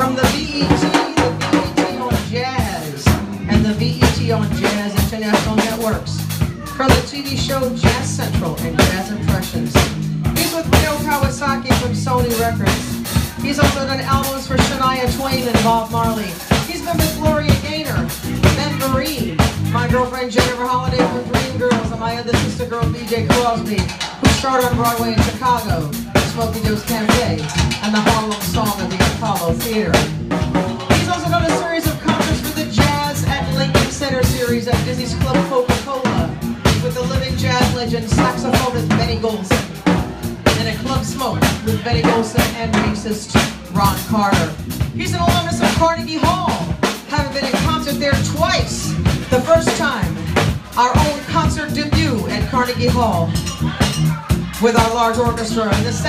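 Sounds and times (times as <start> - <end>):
drum kit beat: 0.0 - 56.0.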